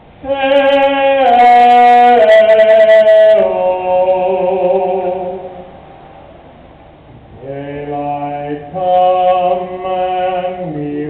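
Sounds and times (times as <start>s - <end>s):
operatic tenor singing: 0.2s - 5.6s, 7.4s - 11.0s.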